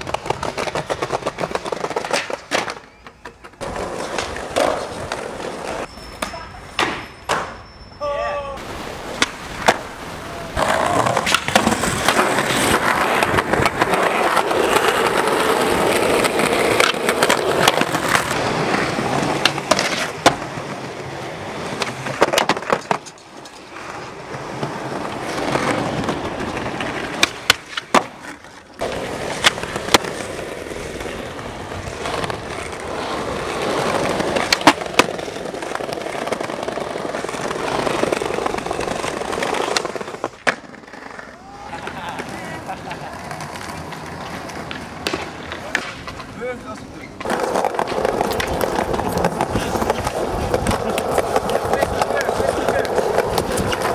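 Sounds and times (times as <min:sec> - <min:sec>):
skateboard clacks: 0:00.0 - 0:07.6, 0:09.1 - 0:09.9, 0:10.5 - 0:53.9
skateboard wheels rolling on paving: 0:00.0 - 0:07.6, 0:08.4 - 0:53.9.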